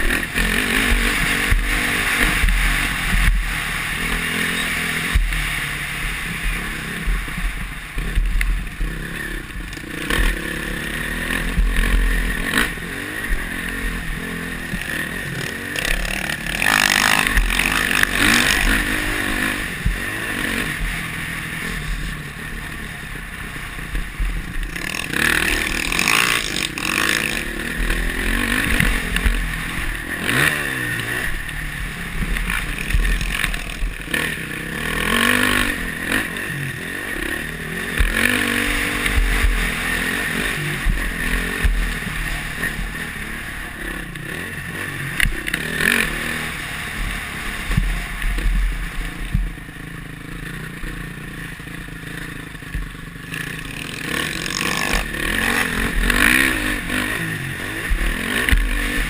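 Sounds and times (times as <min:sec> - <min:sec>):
bike rattling over bumps: 0:00.0 - 0:59.0
motorcycle engine revving: 0:00.0 - 0:59.0.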